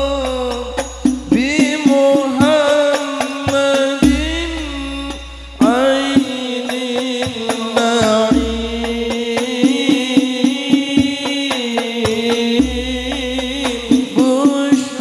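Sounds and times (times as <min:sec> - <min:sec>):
hand-drum strikes: 0:00.0 - 0:15.0
man singing into a microphone: 0:00.0 - 0:15.0.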